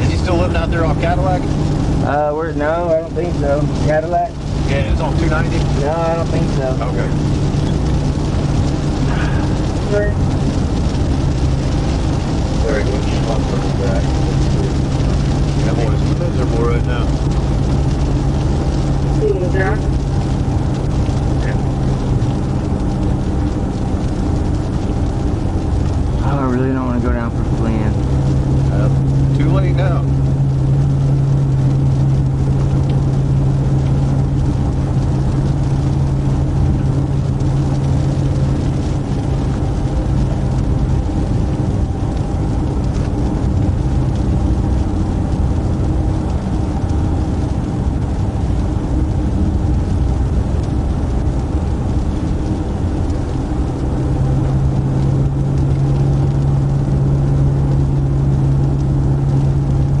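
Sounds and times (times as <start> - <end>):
car engine drone and road noise: 0.0 - 60.0
low hum: 0.0 - 60.0.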